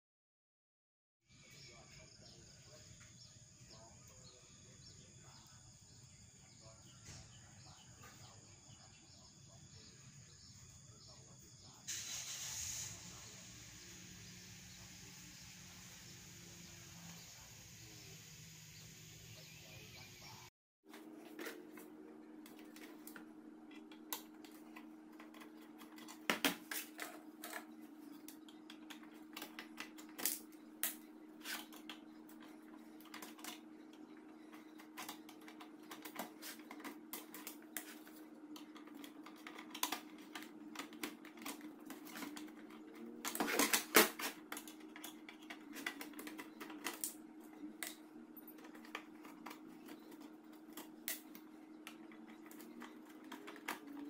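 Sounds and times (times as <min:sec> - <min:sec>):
steady low hum: 0:01.3 - 0:54.0.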